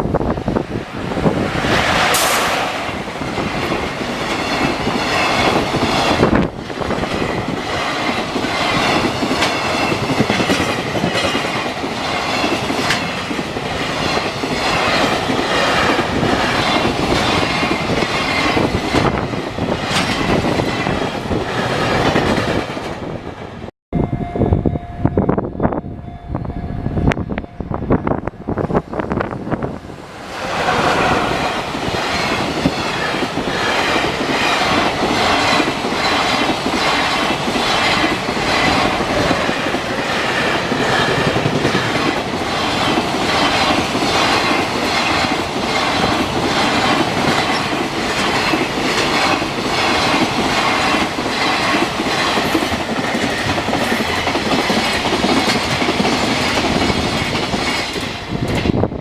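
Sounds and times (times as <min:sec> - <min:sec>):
train wheels clacking over rails: 0:00.4 - 0:23.6, 0:30.0 - 0:58.9.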